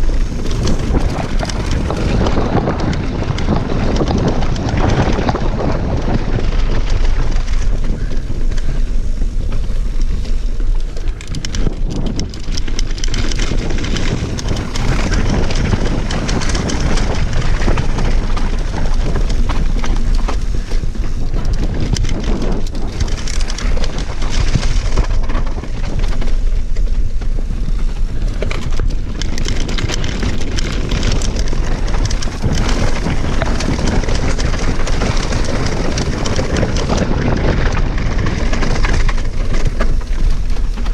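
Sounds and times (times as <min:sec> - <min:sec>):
bike rattling: 0:00.0 - 0:40.9
tyres crunching over loose stones: 0:00.0 - 0:40.9
wind rushing over microphone: 0:00.0 - 0:40.9.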